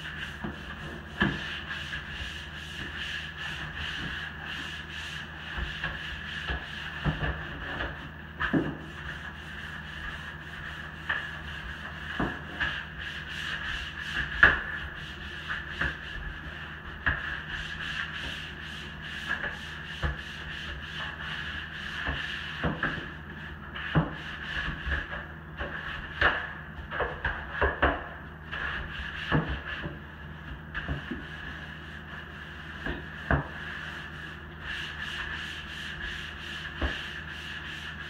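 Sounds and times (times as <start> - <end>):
scrub brush rubbing a wall: 0.0 - 38.0.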